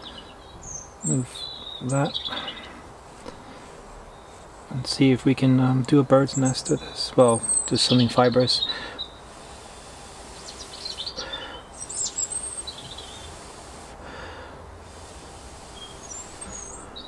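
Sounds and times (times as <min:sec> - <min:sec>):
small birds chirping: 0:00.0 - 0:05.2, 0:05.9 - 0:14.3, 0:14.9 - 0:17.0.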